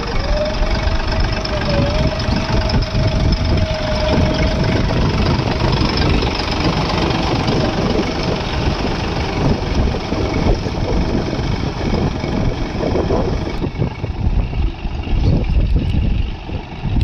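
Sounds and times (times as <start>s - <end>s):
thin steady whine: 0.0s - 17.0s
tractor diesel engine running: 0.0s - 17.0s.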